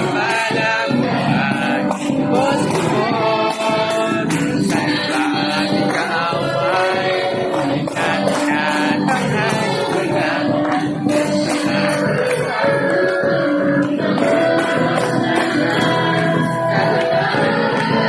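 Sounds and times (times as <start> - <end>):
high percussion steady beat: 0.0 - 18.0
instruments playing: 0.0 - 18.0
voices singing: 0.0 - 18.0.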